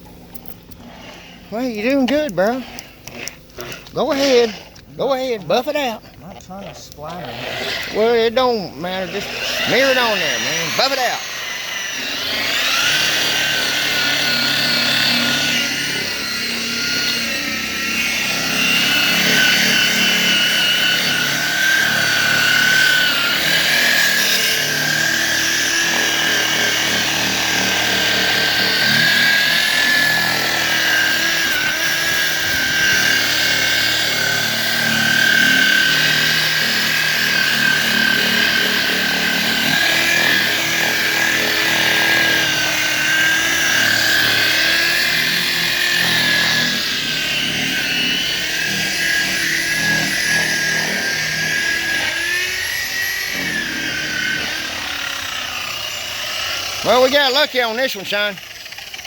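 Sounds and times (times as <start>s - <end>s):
electric car polisher whining: 0.0s - 59.0s.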